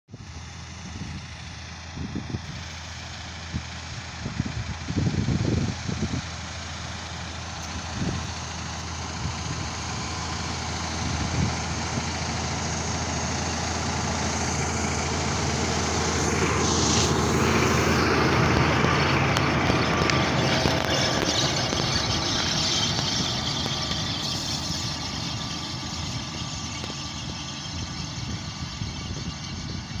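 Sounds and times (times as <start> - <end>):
tractor diesel engine running: 0.1 - 30.0.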